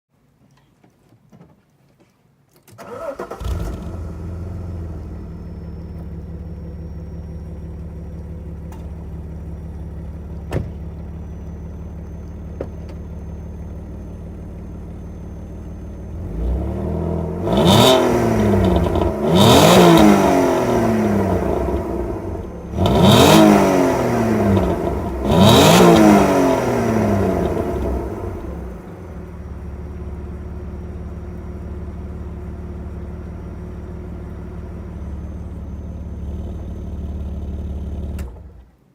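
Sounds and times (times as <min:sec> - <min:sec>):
car engine idling and revving: 0:02.9 - 0:38.9.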